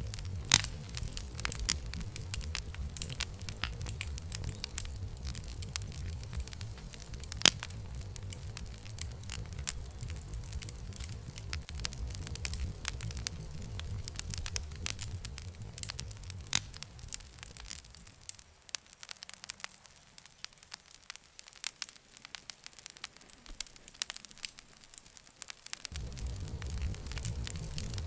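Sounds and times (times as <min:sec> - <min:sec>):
low rumble of flames: 0:00.0 - 0:24.9, 0:25.7 - 0:28.0
campfire crackling and popping: 0:00.0 - 0:28.0.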